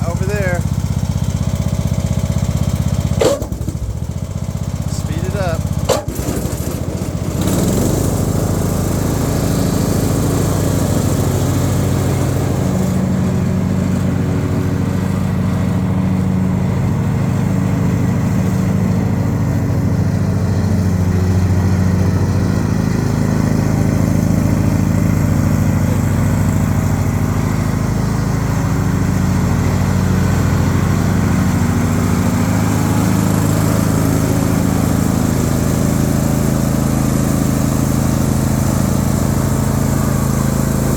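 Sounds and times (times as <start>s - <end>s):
riding lawnmower engine running: 0.0s - 40.9s.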